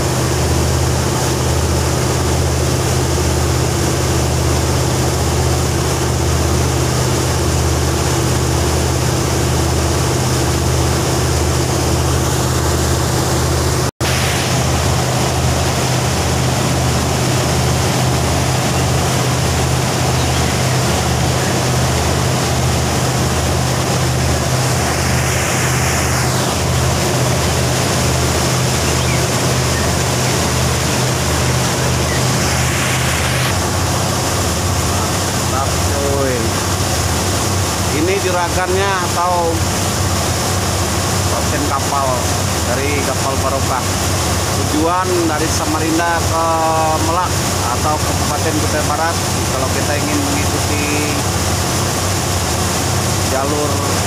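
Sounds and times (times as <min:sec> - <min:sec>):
boat engine drone: 0:00.0 - 0:54.0
churning boat wake: 0:00.0 - 0:54.0.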